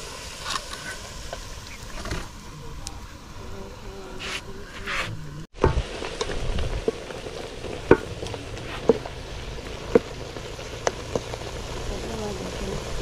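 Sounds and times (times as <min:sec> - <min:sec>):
stew sizzling: 0:00.0 - 0:13.0.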